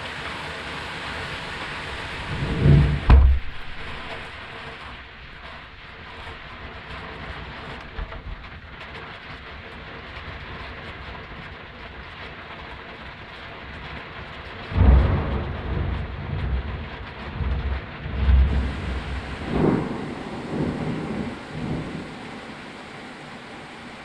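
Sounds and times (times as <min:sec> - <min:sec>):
heavy rain: 0:00.0 - 0:24.0
thunder crack and rumble: 0:01.3 - 0:24.0.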